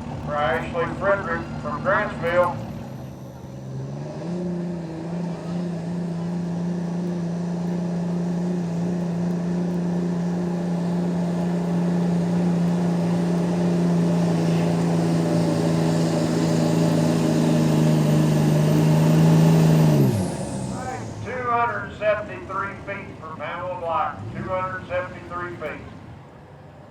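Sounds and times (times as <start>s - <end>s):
truck engine at high revs: 0.0s - 26.9s.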